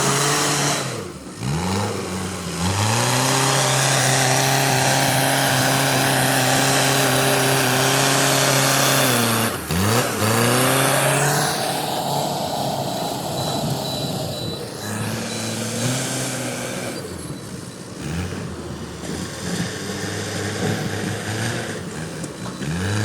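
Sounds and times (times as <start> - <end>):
backhoe diesel engine revving: 0.0 - 23.0.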